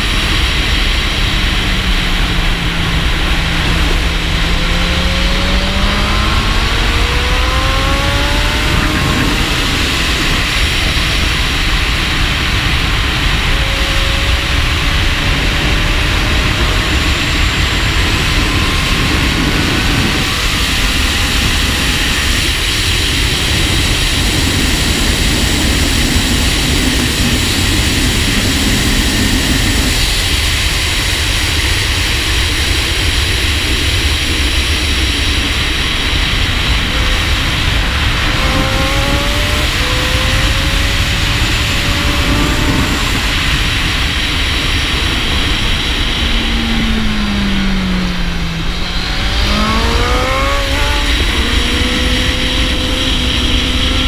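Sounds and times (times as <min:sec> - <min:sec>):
motorcycle engine rising in pitch: 0:00.0 - 0:54.0
wind rushing over camera: 0:00.0 - 0:54.0.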